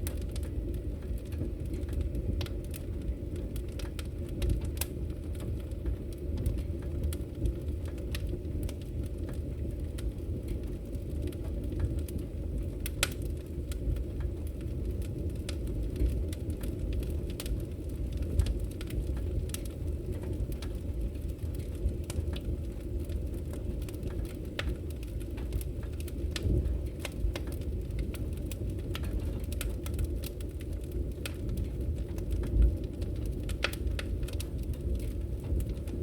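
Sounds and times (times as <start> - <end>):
burning wood crackling: 0.0 - 36.0
fire rumbling: 0.0 - 36.0.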